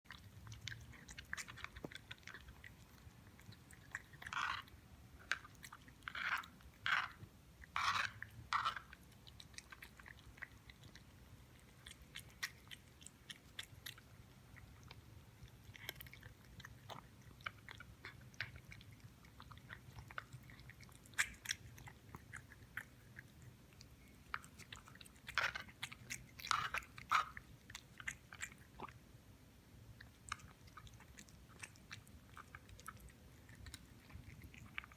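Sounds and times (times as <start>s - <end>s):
cat chewing and crunching food: 0.1s - 34.9s.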